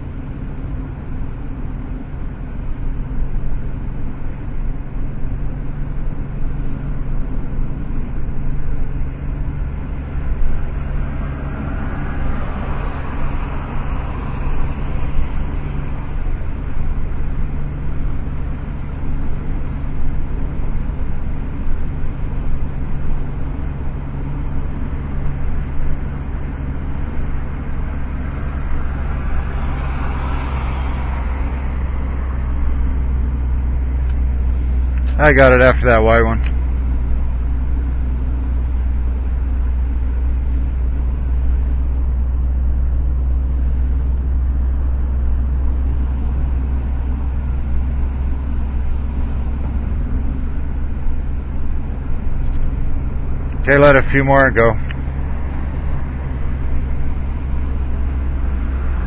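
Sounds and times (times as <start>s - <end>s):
passing traffic: 0.0s - 59.0s
road noise: 0.0s - 59.0s
vehicle engine rumble: 0.0s - 59.0s.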